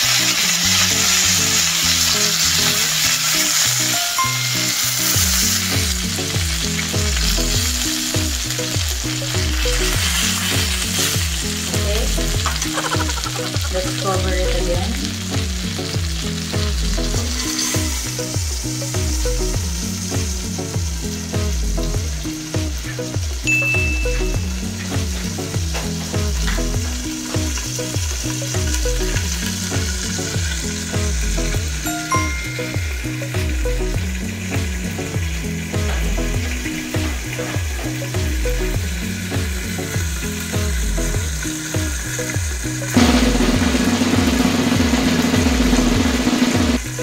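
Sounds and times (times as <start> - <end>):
background music with bass line: 0.0 - 47.0
chicken sizzling in skillet: 0.0 - 47.0.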